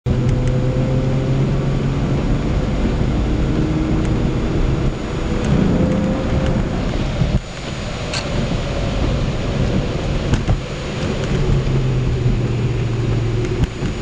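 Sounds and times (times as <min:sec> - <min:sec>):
car engine drone: 0:00.0 - 0:14.0
tyre noise on wet road: 0:00.1 - 0:14.0.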